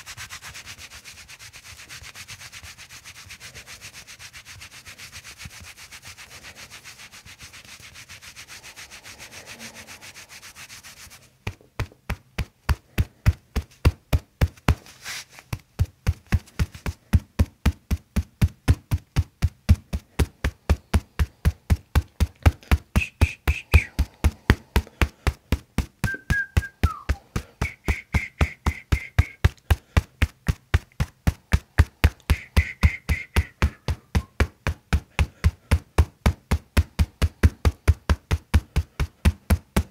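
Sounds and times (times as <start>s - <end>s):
hands rubbing skin: 0.0s - 39.9s
rapid hand strikes on back: 4.7s - 39.9s.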